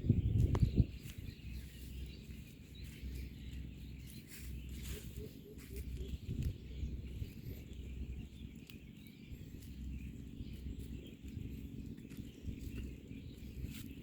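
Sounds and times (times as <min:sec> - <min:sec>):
faint bird chirps: 0:00.0 - 0:14.0
steady low rumble: 0:00.0 - 0:14.0.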